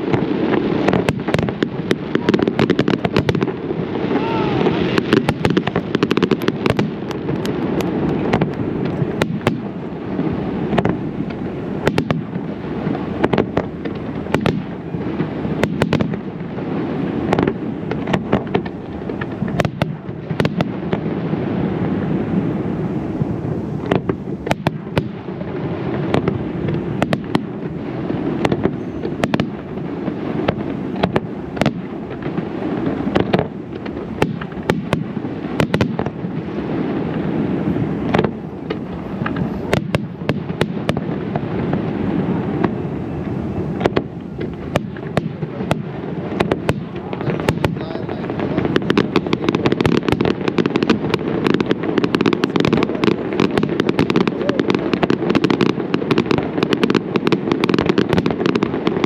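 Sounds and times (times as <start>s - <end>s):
firework shells bursting: 0.0s - 16.4s, 23.2s - 59.0s.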